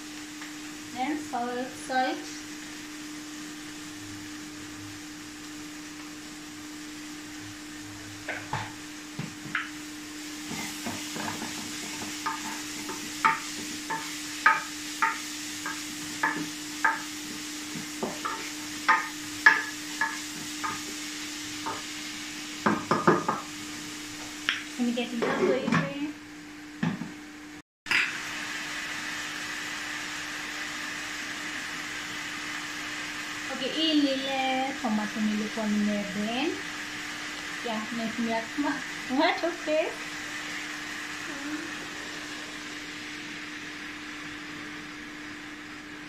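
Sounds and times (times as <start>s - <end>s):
frying sizzle: 0.0s - 46.0s.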